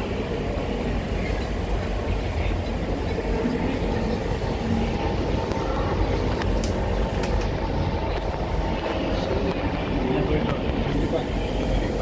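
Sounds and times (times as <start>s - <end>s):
faint steady tones: 0.0s - 12.0s
metro train rumble: 0.0s - 12.0s.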